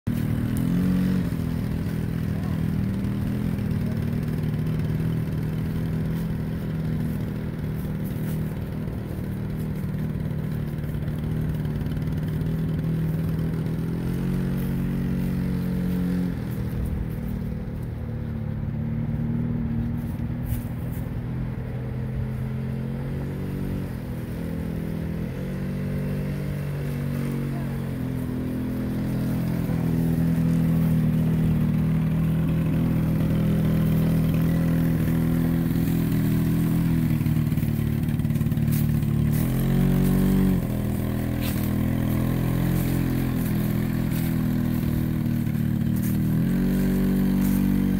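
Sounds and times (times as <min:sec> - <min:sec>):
small two-stroke engine running: 0:00.0 - 0:47.9.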